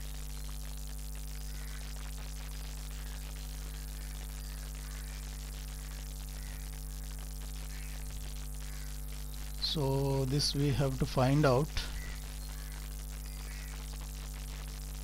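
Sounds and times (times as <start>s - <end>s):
background hiss: 0.0s - 15.0s
electrical hum: 0.0s - 15.0s.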